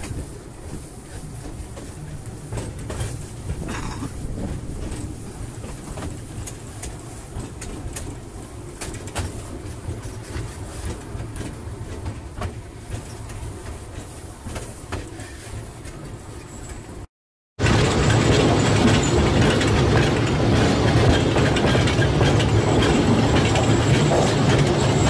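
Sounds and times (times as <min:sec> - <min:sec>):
train rumbling on track: 0:00.0 - 0:25.0
wheels clicking over rails: 0:00.0 - 0:25.0.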